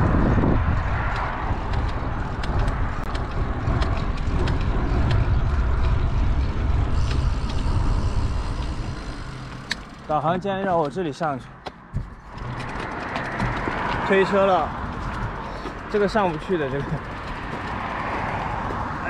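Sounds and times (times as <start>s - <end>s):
bicycle tyre noise on road: 0.0s - 19.0s
wind rumbling on microphone: 0.0s - 19.0s.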